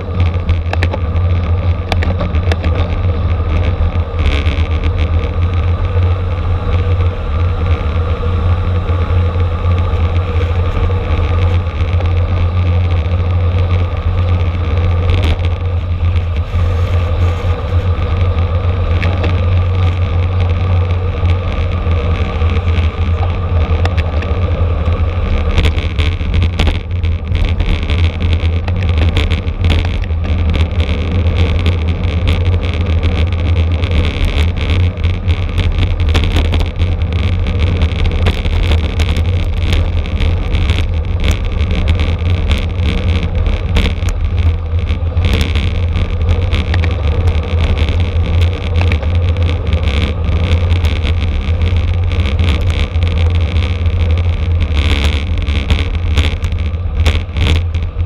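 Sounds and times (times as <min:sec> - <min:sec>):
tyres rumbling on road: 0:00.0 - 0:58.0
wind on microphone: 0:00.0 - 0:58.0.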